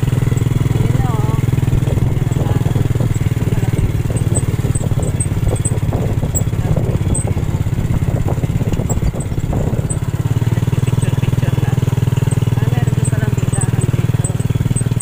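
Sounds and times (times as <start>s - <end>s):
motorcycle engine running: 0.0s - 15.0s
rattling over the road: 0.0s - 15.0s.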